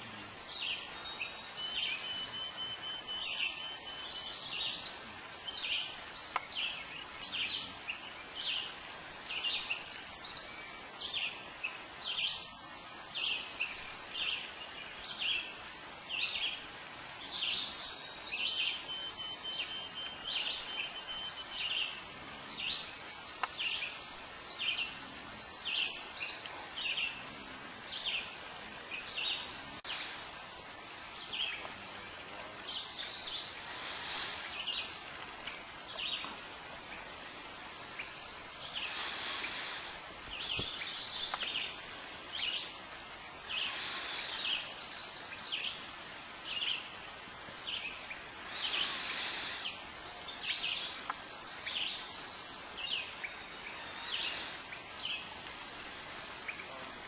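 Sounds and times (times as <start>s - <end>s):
songbirds sweeping high notes: 0.0s - 57.0s.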